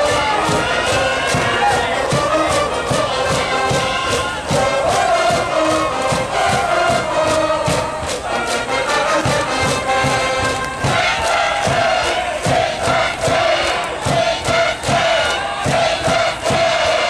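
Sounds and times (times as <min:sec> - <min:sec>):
brass band playing: 0:00.0 - 0:17.0
crowd chanting: 0:00.0 - 0:17.0
steady drum beat: 0:00.0 - 0:17.0.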